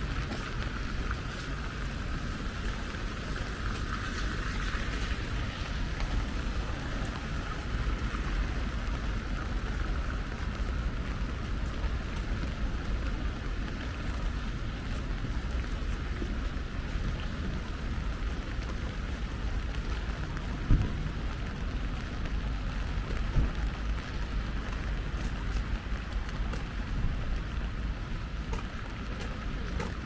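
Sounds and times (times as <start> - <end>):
light rain falling: 0.0 - 30.0.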